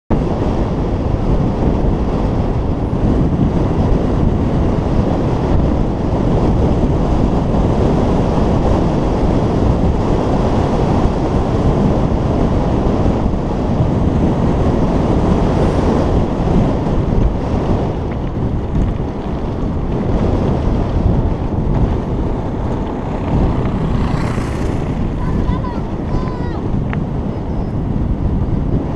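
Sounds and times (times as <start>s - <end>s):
wind buffeting microphone: 0.1s - 28.9s.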